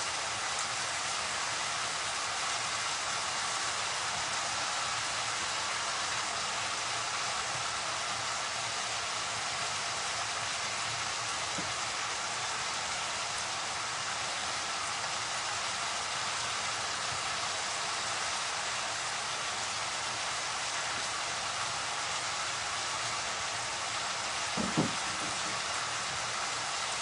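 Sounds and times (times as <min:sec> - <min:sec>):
curry sizzling in hot oil: 0:00.0 - 0:27.0.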